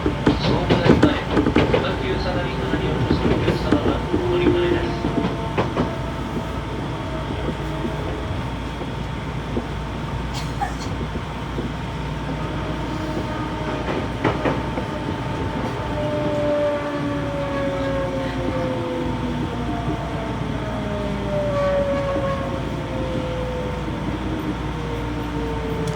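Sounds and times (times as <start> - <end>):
train running noise: 0.0 - 25.9.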